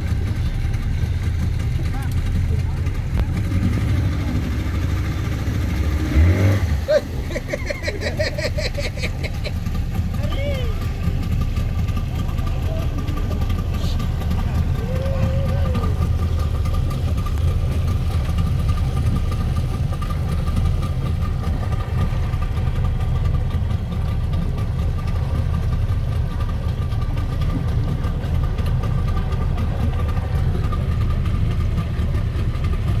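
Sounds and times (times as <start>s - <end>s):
motorboat engine droning: 0.0s - 33.0s.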